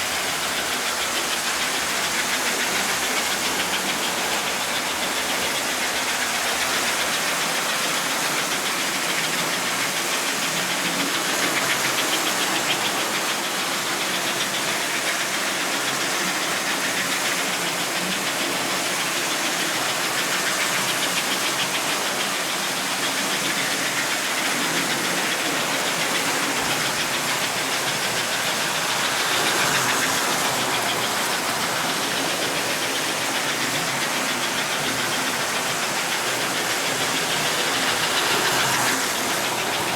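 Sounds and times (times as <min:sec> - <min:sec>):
toy train motor whirring: 0:00.0 - 0:39.9
wheels clicking on rails: 0:00.0 - 0:39.9.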